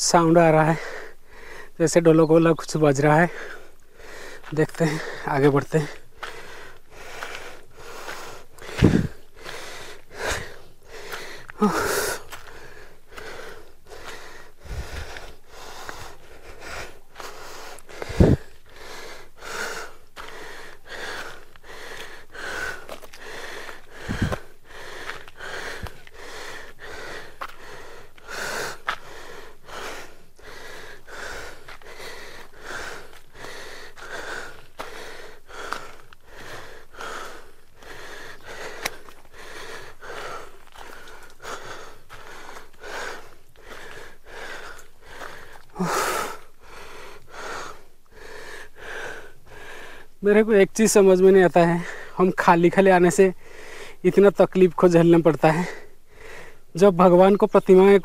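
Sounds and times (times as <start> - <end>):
man panting: 0.2 - 1.8, 3.0 - 54.1, 55.4 - 56.7.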